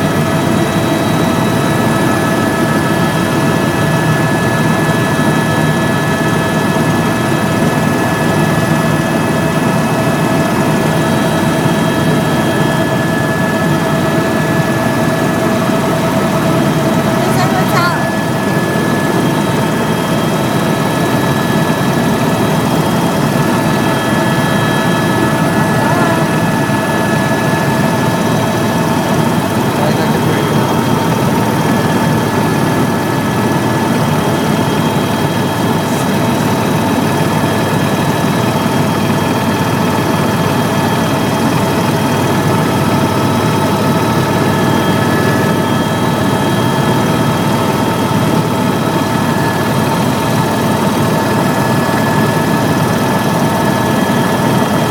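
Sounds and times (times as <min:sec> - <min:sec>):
constant whining tones: 0:00.0 - 0:54.8
helicopter engine and rotor drone: 0:00.0 - 0:54.9.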